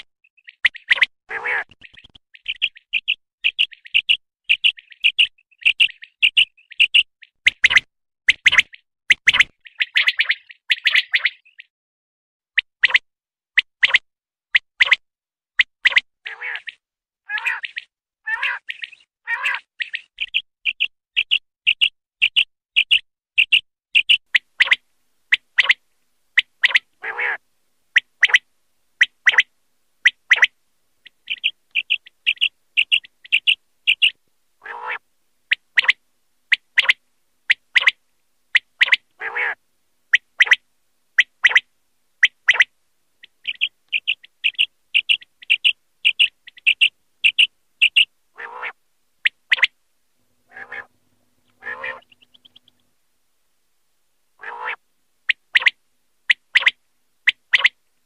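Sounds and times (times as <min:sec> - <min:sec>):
quail calling: 0:00.0 - 0:11.6, 0:15.8 - 0:25.8, 0:26.4 - 0:40.6, 0:41.2 - 0:49.8, 0:50.5 - 0:52.8, 0:54.4 - 0:57.8.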